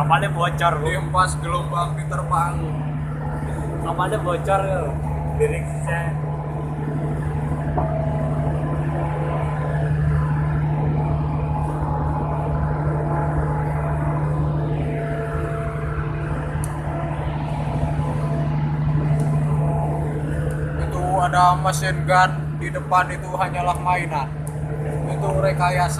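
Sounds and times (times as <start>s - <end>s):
large engine droning: 0.0s - 25.9s.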